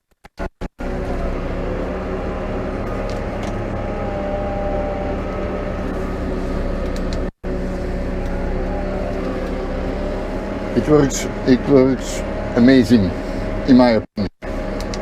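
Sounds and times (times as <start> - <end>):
tractor diesel engine running: 0.7 - 15.0.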